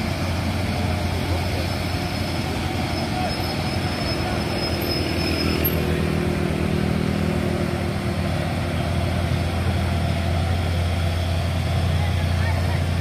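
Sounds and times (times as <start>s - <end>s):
truck diesel engine climbing: 0.0s - 13.0s.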